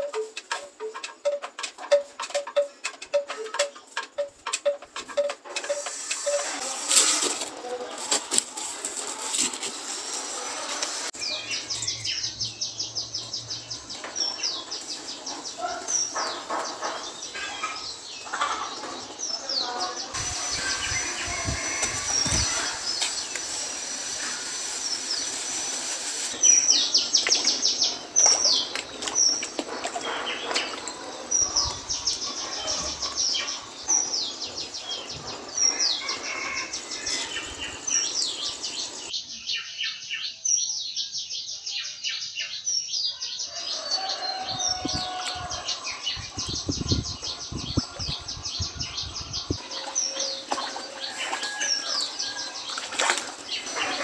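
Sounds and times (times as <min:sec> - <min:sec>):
birds chirping: 0:00.0 - 0:54.0
high downward trilling bird calls: 0:04.7 - 0:54.0.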